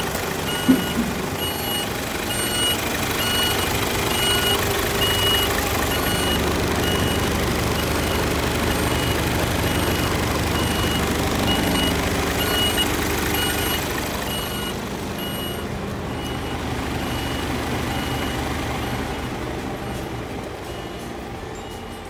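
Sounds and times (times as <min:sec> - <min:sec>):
truck diesel engine idling: 0:00.0 - 0:22.0.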